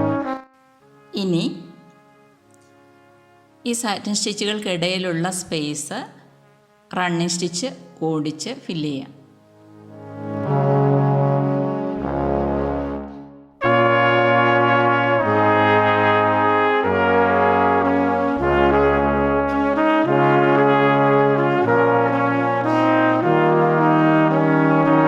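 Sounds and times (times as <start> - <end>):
background music sustained chords: 0.0 - 25.0.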